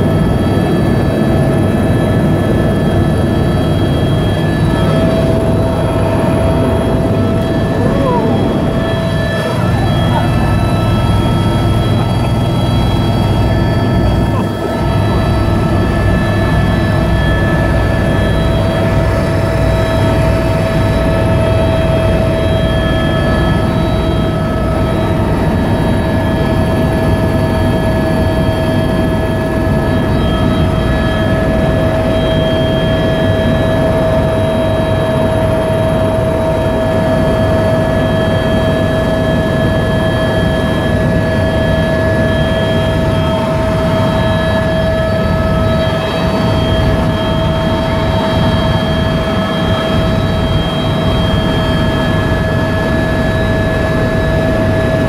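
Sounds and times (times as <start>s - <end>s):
helicopter rotor beat: 0.0s - 55.0s
turbine engine whine: 0.0s - 55.0s.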